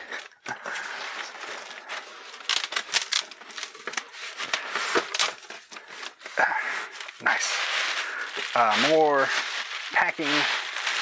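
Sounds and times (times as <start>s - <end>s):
plastic air-cushion packing crackling: 0.0s - 11.0s.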